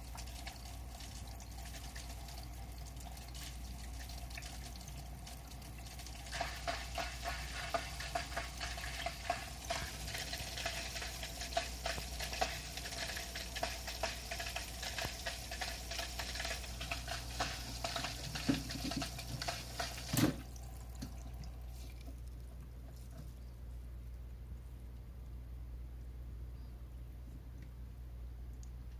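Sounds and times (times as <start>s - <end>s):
crackling and sizzling air bubbles: 0.0s - 24.2s
water flowing: 0.0s - 24.2s
aquarium filter humming: 0.0s - 28.9s.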